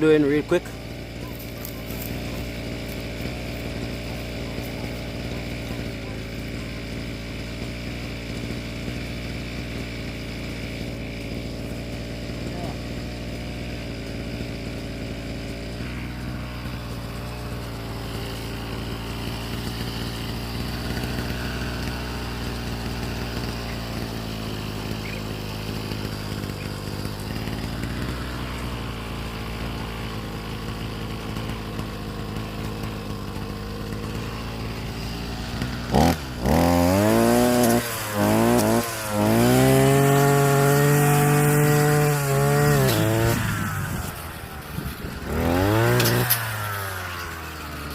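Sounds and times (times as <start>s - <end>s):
brush cutter engine revving: 0.0s - 47.9s.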